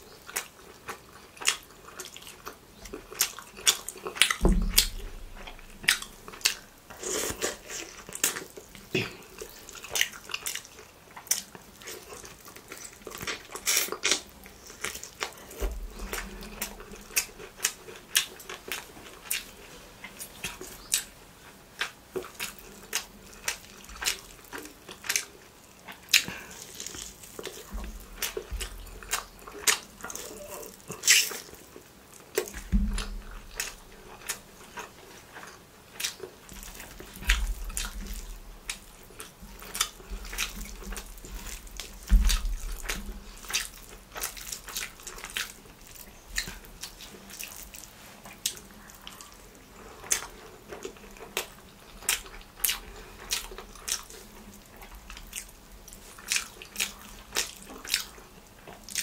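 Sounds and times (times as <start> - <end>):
chewing with lip smacks: 0.0 - 59.0.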